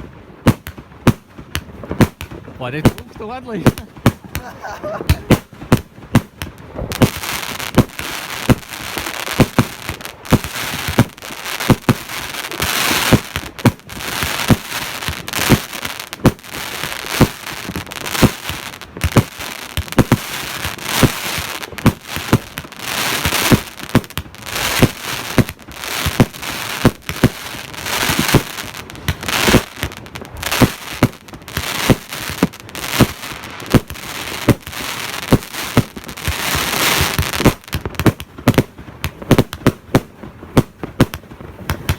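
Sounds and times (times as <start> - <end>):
fireworks bangs: 0.0 - 41.9
fireworks crackling: 0.0 - 41.9.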